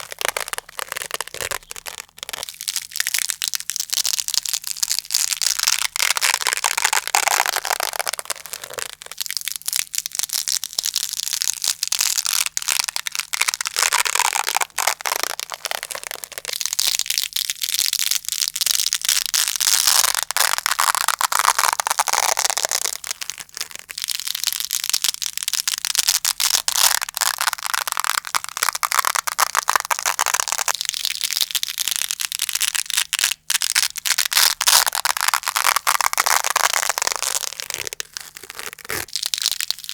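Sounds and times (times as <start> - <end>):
velcro ripping: 0.0 - 39.9.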